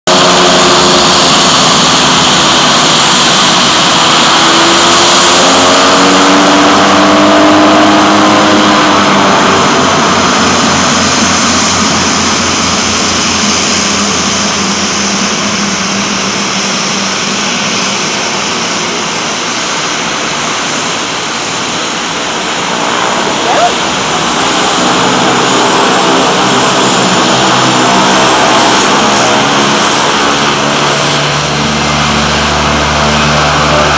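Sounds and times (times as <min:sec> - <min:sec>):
turboprop engines taxiing: 0:00.1 - 0:33.9.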